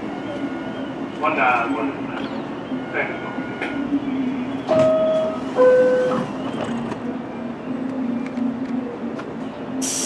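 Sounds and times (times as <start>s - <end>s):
subway train motor hum: 0.0s - 10.0s.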